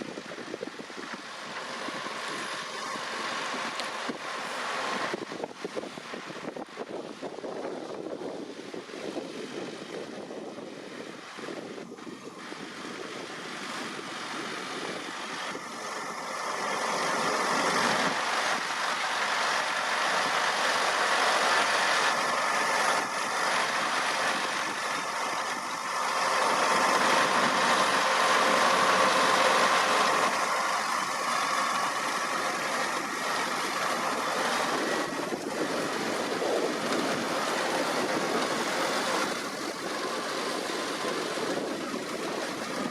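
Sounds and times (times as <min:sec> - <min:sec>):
tractor running: 0:00.0 - 0:42.9.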